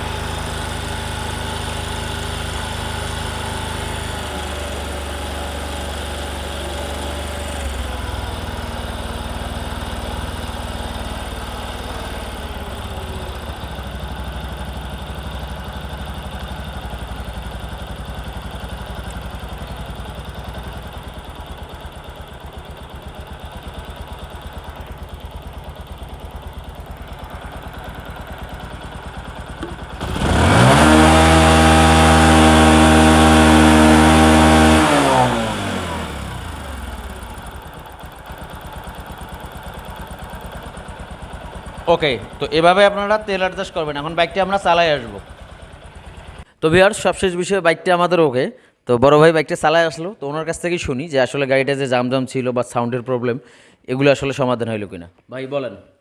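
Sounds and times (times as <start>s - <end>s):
motorcycle engine idling and revving: 0.0s - 46.6s.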